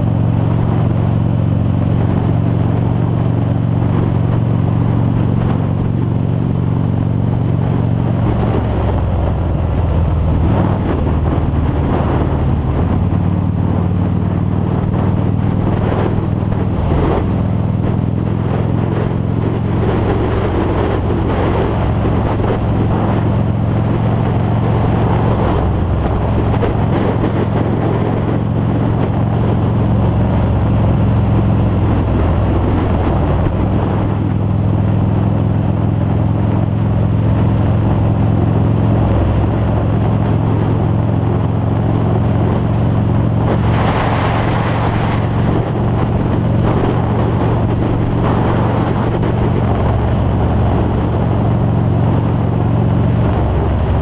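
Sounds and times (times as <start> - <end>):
motorcycle engine cruising: 0.0 - 54.0
wind noise on helmet camera: 0.0 - 54.0.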